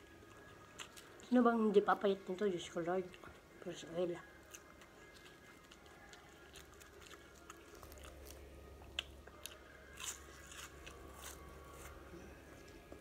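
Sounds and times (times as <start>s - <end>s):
chewing crispy fried leaves: 0.0s - 13.0s.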